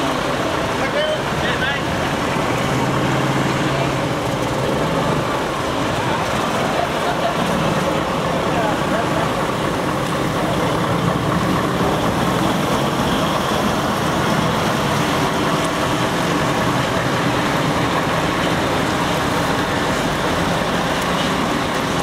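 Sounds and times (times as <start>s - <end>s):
truck diesel engines rumbling: 0.0s - 22.0s.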